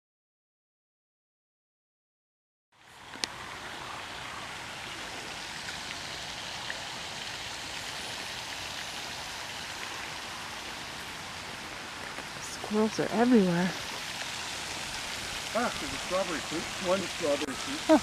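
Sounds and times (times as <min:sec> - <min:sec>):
running water rushing: 0:02.8 - 0:18.0.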